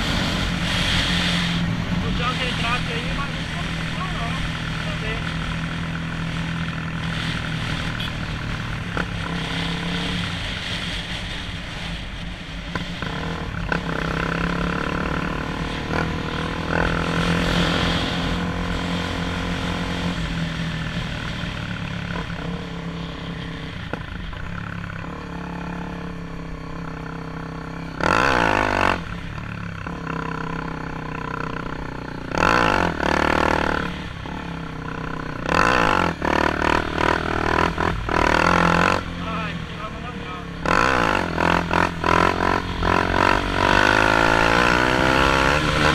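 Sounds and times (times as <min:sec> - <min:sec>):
loud engine blasts: 0:00.0 - 0:27.1, 0:27.7 - 0:45.9
motorcycle engine running: 0:00.0 - 0:45.9.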